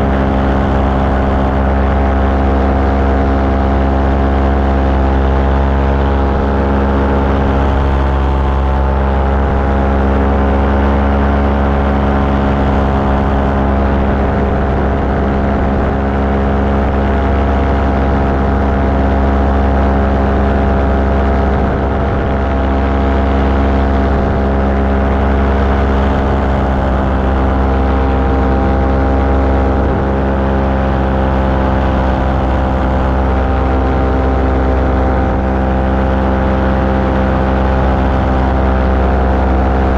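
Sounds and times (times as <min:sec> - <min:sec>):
small aircraft engine and propeller: 0:00.0 - 0:39.9.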